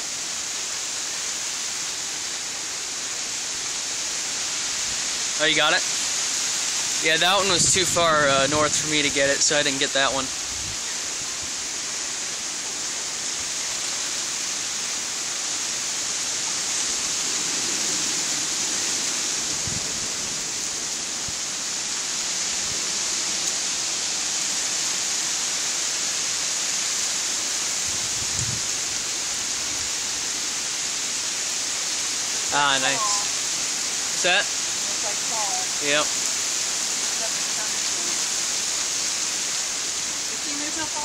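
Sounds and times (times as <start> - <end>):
heavy rain: 0.0 - 41.0
strong wind through trees: 0.0 - 41.0.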